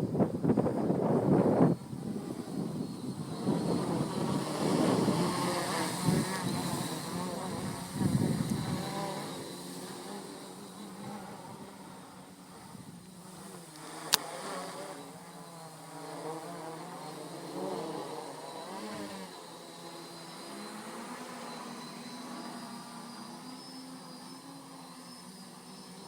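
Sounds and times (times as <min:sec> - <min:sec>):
quadcopter propellers buzzing: 0:00.0 - 0:26.0.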